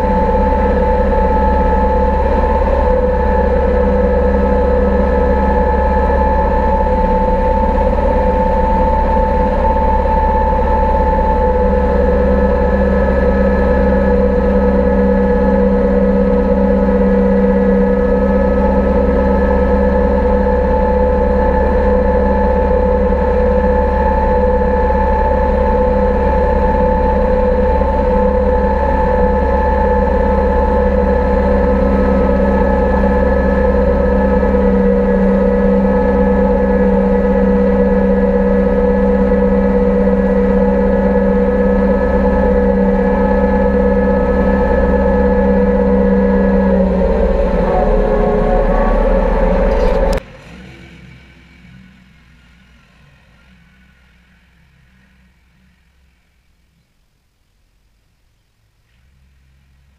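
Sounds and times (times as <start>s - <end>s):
tractor diesel engine running: 0.0s - 55.6s.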